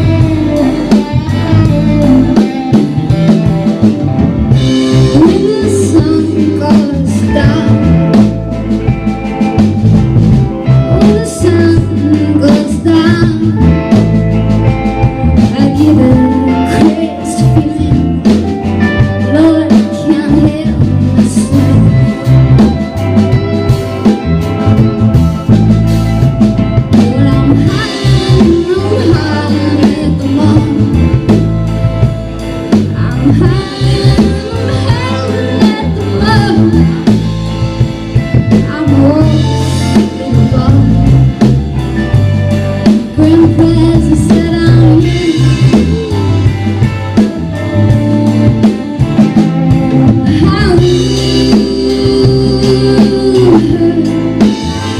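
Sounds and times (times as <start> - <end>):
roots-rock band playing: 0.0 - 54.9
woman singing lead: 0.0 - 54.9.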